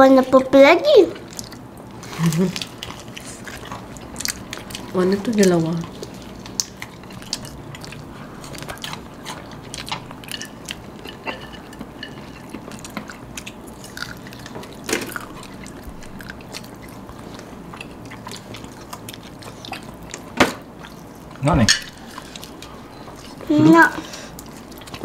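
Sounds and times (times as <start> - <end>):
crunchy chewing: 1.2 - 23.5, 24.2 - 25.0.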